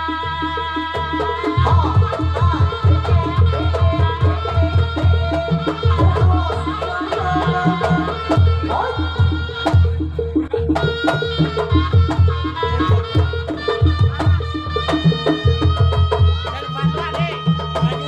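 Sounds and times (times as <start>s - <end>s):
drum strokes in quick rhythm: 0.1s - 18.0s.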